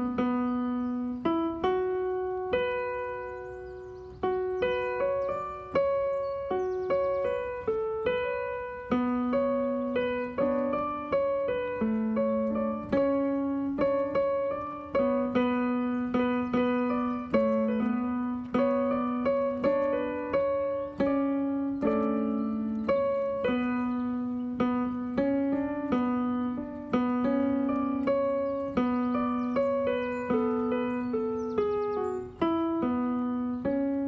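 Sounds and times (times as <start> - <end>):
electronic keyboard piano tune: 0.0 - 34.0.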